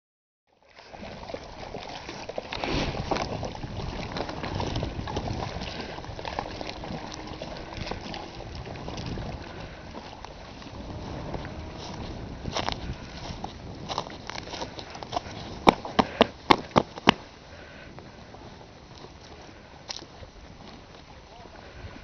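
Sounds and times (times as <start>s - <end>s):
wind rumbling on microphone: 0.9s - 22.0s.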